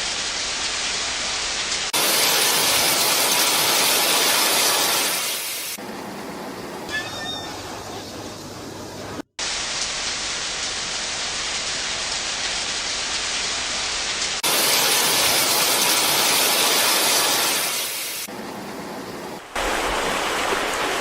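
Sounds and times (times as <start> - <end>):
rushing water hiss: 0.0 - 5.8, 8.8 - 21.0.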